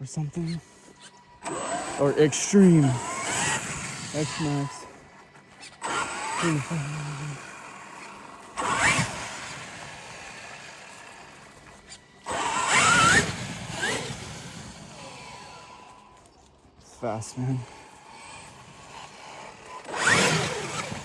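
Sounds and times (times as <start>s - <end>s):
electric motor whining up: 0.0s - 21.0s.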